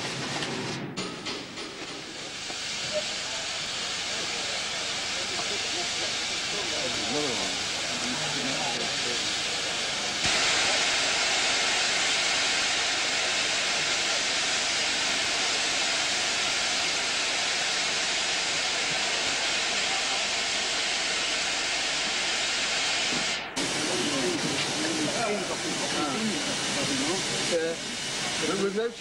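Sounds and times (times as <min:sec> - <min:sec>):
steam locomotive hissing steam: 0:00.0 - 0:29.0.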